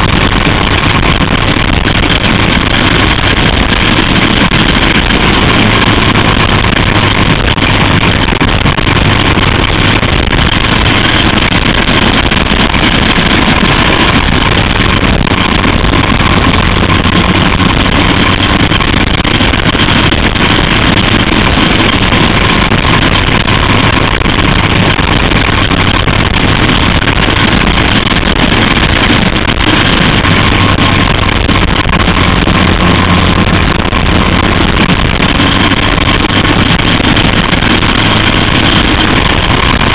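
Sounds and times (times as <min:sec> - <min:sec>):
race car engine running: 0:00.0 - 0:39.9
road noise: 0:00.0 - 0:39.9
wind noise: 0:00.0 - 0:39.9.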